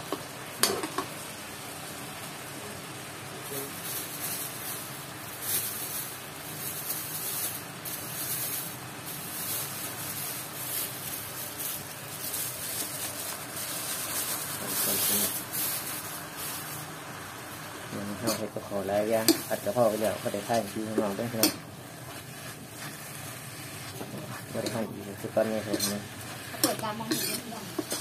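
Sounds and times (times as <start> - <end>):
paste sizzling in a wok: 0.0 - 28.0.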